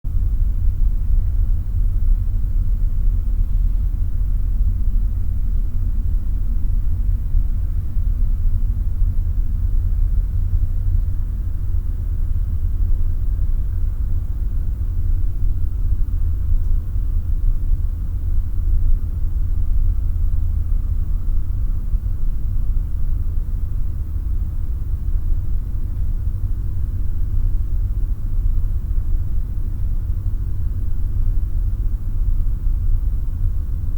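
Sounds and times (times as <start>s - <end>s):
deep steady rumble: 0.1s - 33.9s.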